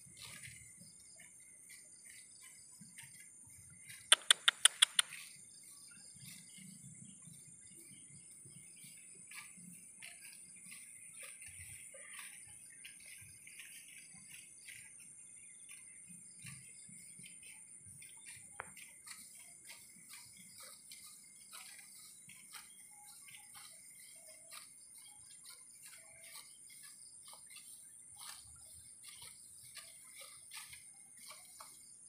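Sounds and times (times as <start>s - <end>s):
buffalo cropping grass: 0.0s - 32.0s.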